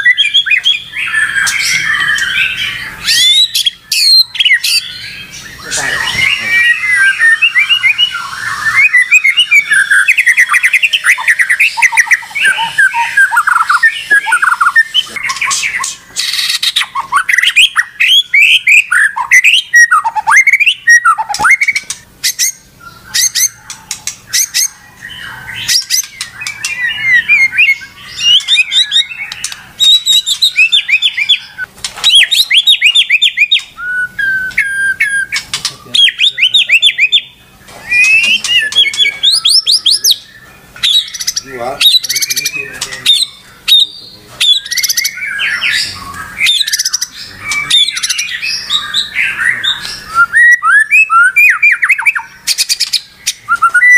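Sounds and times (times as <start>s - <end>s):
songbird singing fast phrases: 0.0s - 53.9s.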